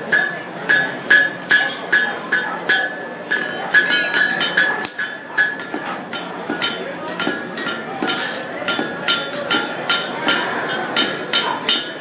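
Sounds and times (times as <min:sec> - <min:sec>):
hammer striking iron on anvil: 0:00.0 - 0:12.0.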